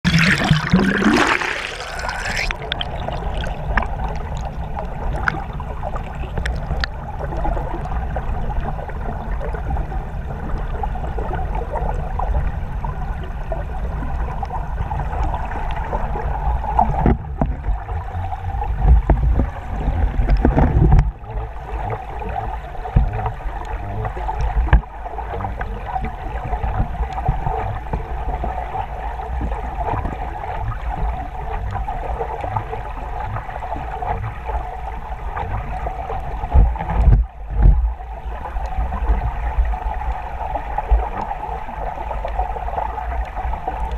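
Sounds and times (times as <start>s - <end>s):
low underwater rumbles and knocks: 0.0s - 43.9s
muffled underwater river rushing: 0.0s - 43.9s.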